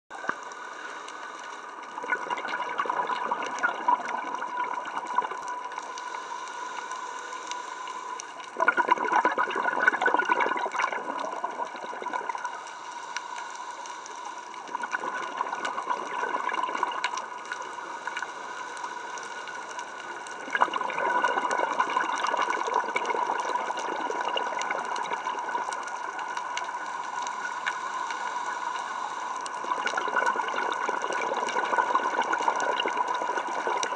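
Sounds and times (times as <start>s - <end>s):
muffled underwater bubbling: 0.1s - 33.9s
thin steady tone: 0.1s - 33.9s.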